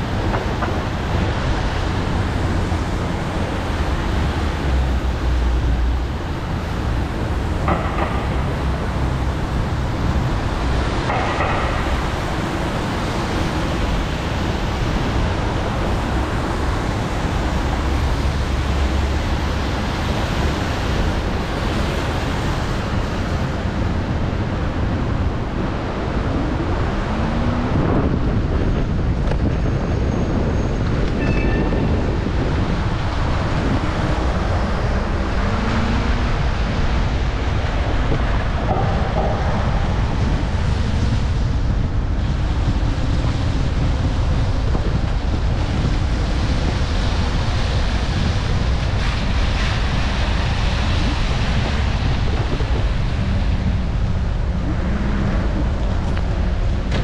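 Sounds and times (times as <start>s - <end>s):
wet road noise: 0.0s - 57.0s
wind rush over microphone: 0.0s - 57.0s.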